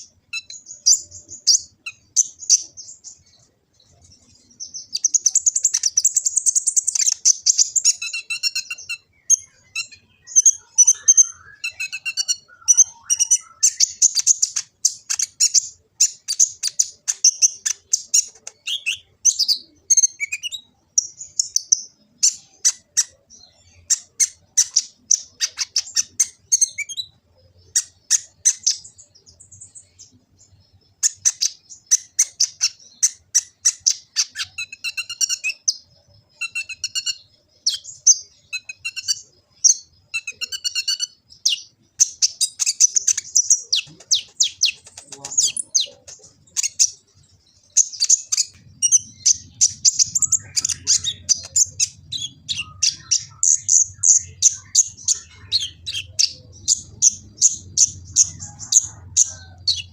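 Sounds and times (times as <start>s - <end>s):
sunbird chirping and trilling: 0.0s - 59.9s.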